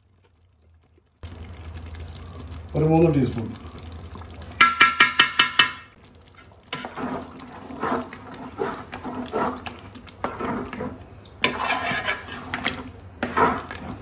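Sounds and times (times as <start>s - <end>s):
ladle stirring thick gravy: 0.0s - 14.0s.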